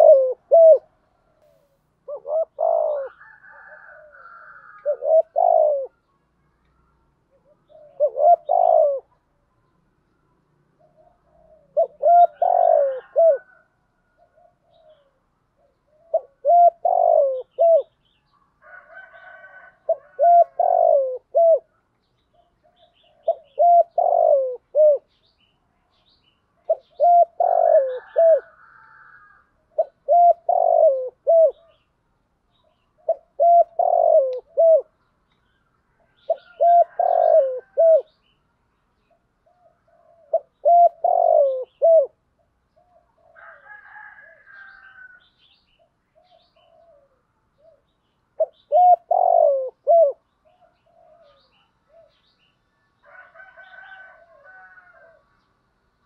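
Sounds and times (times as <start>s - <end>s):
dove cooing: 0.0s - 6.1s, 7.3s - 9.4s, 10.8s - 25.2s, 26.6s - 31.9s, 32.5s - 35.0s, 36.0s - 38.2s, 39.1s - 52.3s, 53.1s - 55.3s.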